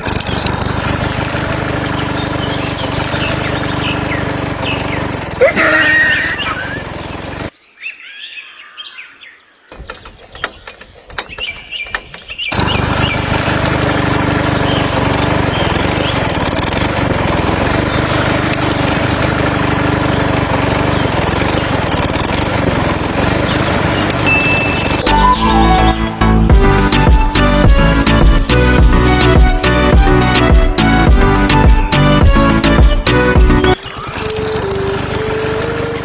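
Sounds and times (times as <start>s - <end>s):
small diesel engine running: 0.0s - 7.5s, 12.1s - 36.0s.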